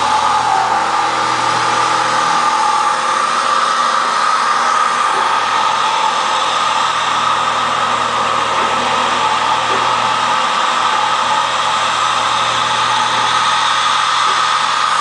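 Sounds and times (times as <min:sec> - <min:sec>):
machining center whirring: 0:00.0 - 0:15.0.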